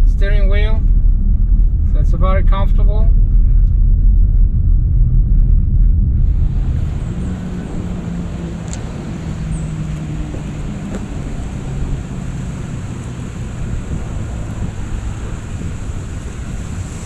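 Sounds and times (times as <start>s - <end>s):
car engine humming: 0.0s - 17.0s
road noise: 0.0s - 17.0s
wind noise: 0.0s - 17.0s.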